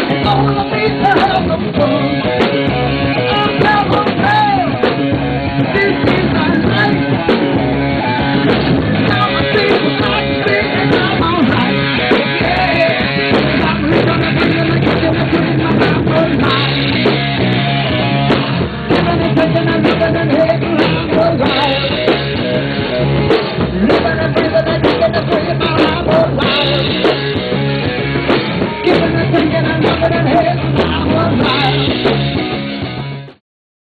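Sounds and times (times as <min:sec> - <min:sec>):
person singing: 0:00.0 - 0:32.6
drum kit beat: 0:00.0 - 0:33.4
rock band playing live: 0:00.0 - 0:33.4.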